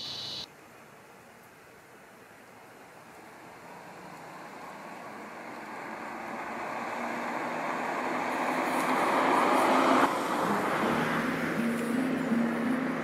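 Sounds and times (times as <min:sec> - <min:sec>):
car tyre and road noise: 0:00.0 - 0:13.0.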